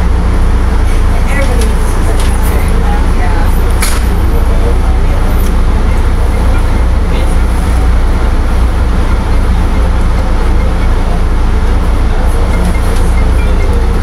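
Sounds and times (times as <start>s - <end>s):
train low rumble inside car: 0.0s - 14.0s.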